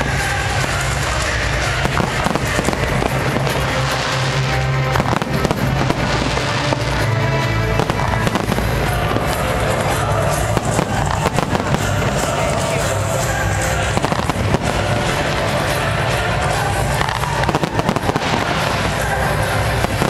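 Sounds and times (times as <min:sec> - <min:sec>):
fireworks bangs and crackles: 0:00.0 - 0:20.0
loud music: 0:00.0 - 0:20.0.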